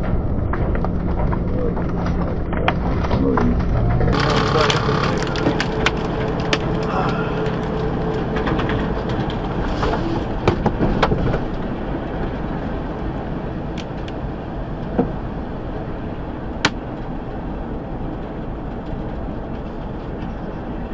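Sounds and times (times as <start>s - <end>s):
vehicle driving: 0.0s - 20.9s.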